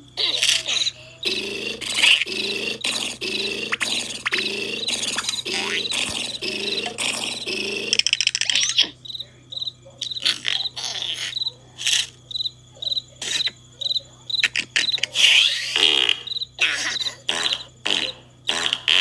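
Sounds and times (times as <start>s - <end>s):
growly cartoon vocal noise: 0.0s - 9.0s, 10.0s - 12.2s, 14.4s - 19.0s
cricket chirping: 0.0s - 19.0s.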